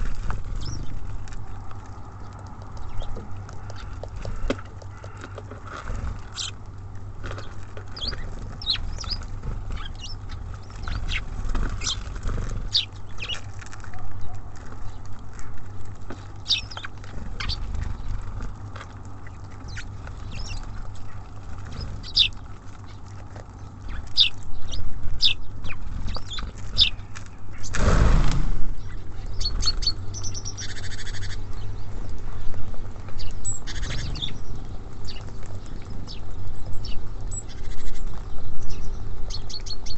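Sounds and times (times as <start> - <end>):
songbirds chirping: 0.0 - 39.9
steady low rumble: 0.0 - 39.9.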